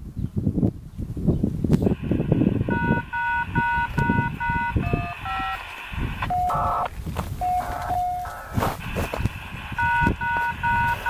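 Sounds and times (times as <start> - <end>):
radio static: 1.9 - 11.0
siren tones over radio: 1.9 - 11.0.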